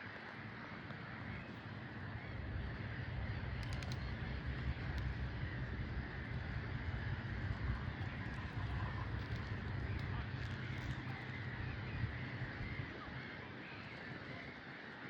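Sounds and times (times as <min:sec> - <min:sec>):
outdoor background noise: 0:00.0 - 0:15.0
faint clicks: 0:00.7 - 0:12.9
low rumble: 0:01.0 - 0:13.3.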